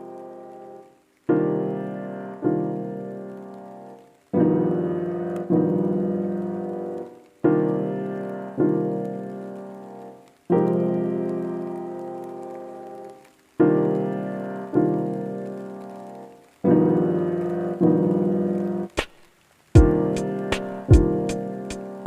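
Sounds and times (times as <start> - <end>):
slow piano chords: 0.0 - 19.0, 19.8 - 22.0.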